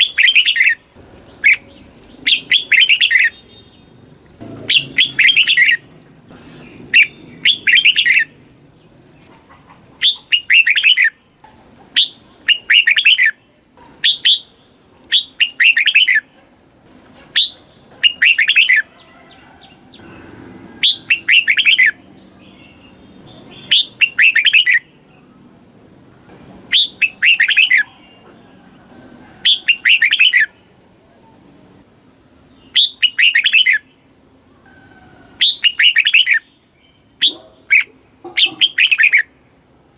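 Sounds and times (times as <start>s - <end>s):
bird singing warbled phrases: 0.0s - 16.5s, 17.2s - 19.0s, 19.6s - 28.3s, 29.4s - 34.6s, 35.4s - 39.4s.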